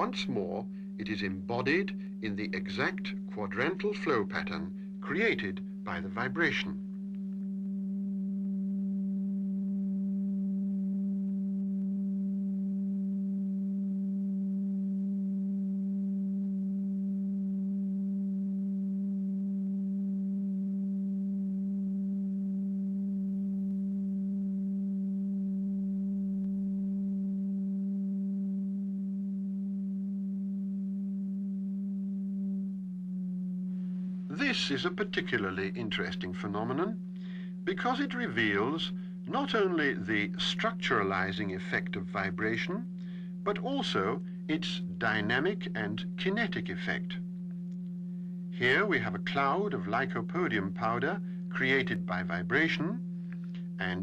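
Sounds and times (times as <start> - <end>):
steady electronic tone: 0.0 - 54.0.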